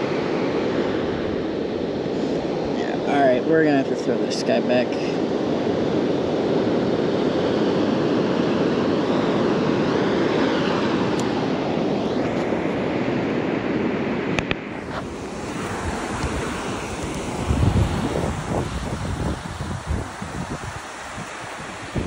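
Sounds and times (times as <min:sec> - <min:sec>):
surf breaking on beach: 0:00.0 - 0:22.0
wind on microphone: 0:00.0 - 0:22.0.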